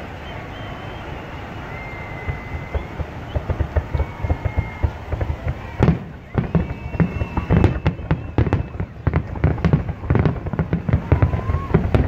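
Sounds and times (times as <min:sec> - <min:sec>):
crowd and street noise: 0:00.0 - 0:12.0
distant fireworks booming: 0:01.7 - 0:12.0.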